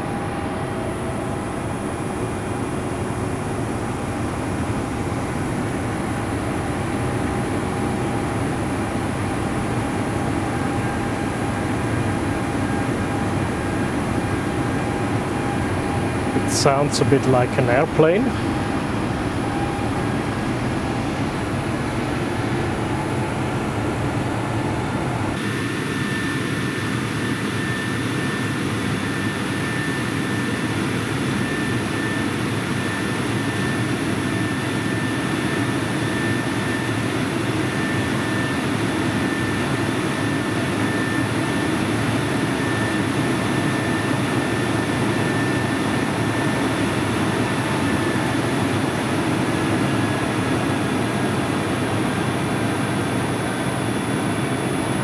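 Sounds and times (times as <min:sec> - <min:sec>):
cooling blowers rushing with whine: 0:00.0 - 0:55.0.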